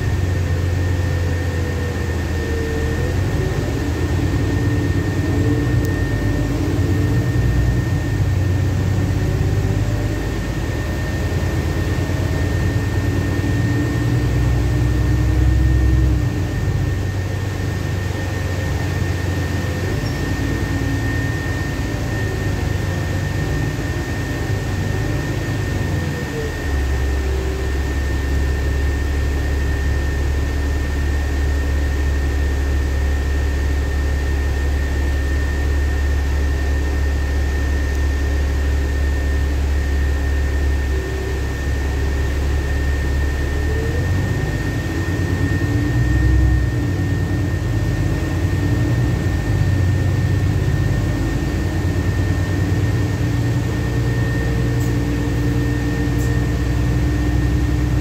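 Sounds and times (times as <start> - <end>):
bus engine and running noise: 0.0 - 58.0
thin high whine: 0.0 - 58.0.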